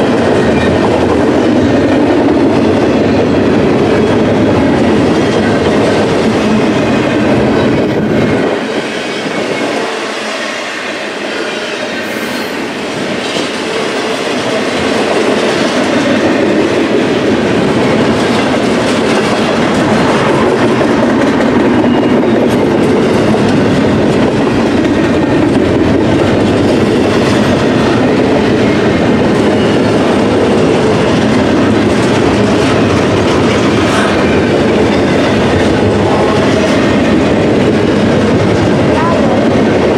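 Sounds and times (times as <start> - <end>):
freight train wheels clickety-clack: 0.0 - 39.9.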